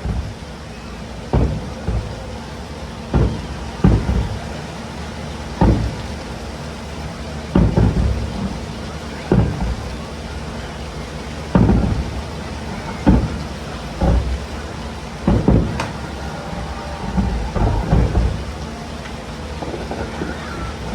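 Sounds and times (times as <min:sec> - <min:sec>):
fireworks booming: 0:00.0 - 0:20.9.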